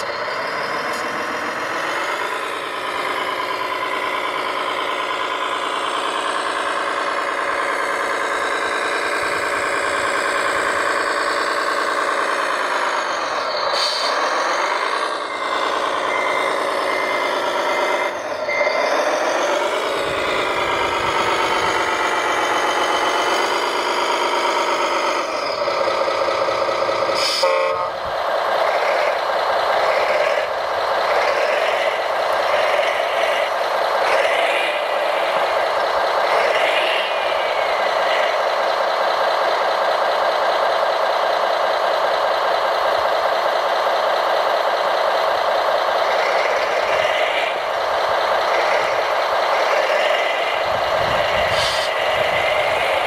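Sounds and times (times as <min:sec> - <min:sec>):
toy diesel engine revving: 0:00.0 - 0:53.0.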